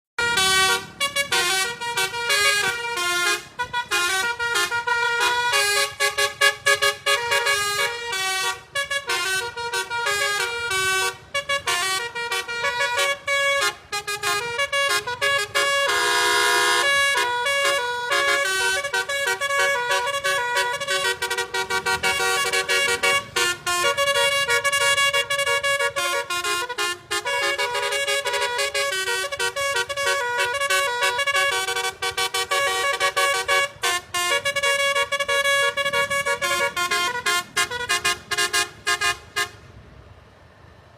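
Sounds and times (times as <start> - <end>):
bus horn playing a tune: 0.2 - 39.7.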